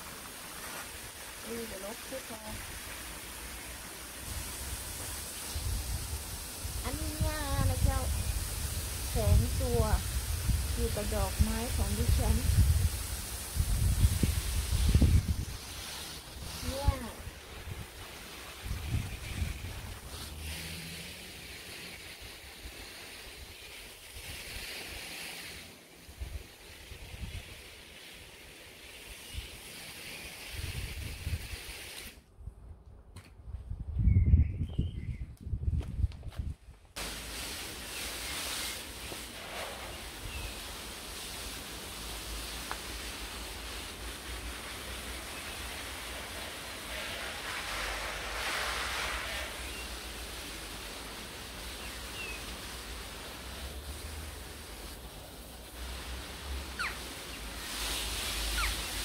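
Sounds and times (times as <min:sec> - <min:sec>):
even hiss: 0:00.0 - 0:32.2, 0:36.9 - 0:59.0
hose nozzle spraying water: 0:00.0 - 0:32.2, 0:37.0 - 0:59.0.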